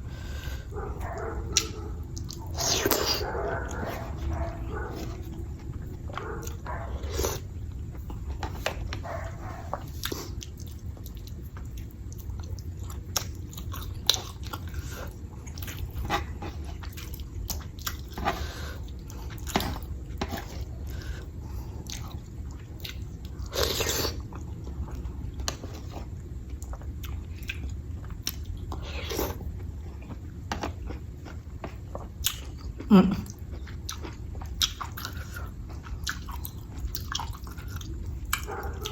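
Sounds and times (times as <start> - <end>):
steady low hum: 0.0 - 38.9
chewing and biting: 0.8 - 38.9.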